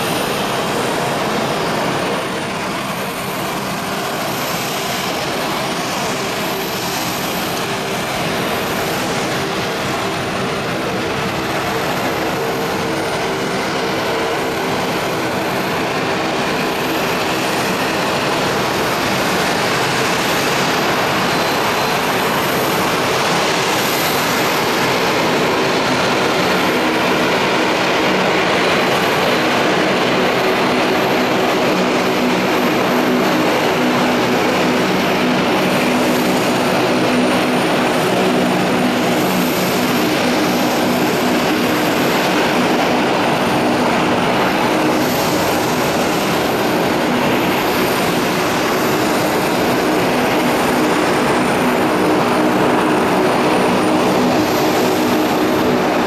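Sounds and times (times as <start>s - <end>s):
jet engines at taxi thrust: 0.0s - 56.0s.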